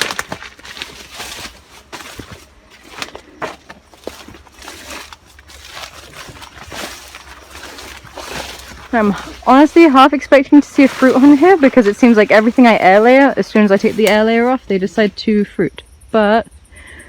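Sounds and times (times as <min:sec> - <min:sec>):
leaves and twigs crackling: 0:00.0 - 0:15.6.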